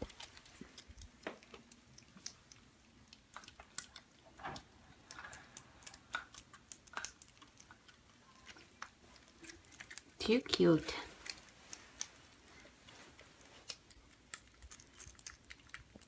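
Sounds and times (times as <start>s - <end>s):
kittens crunching dry kibble: 0.0s - 16.0s.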